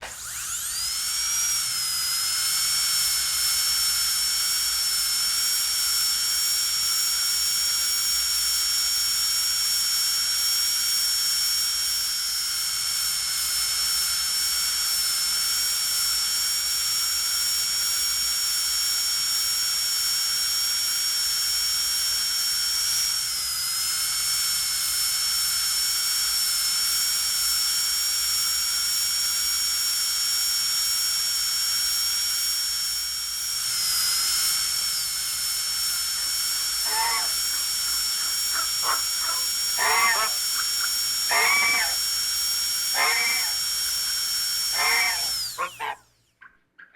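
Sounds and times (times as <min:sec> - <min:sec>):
dental drill whining: 0:00.0 - 0:46.4.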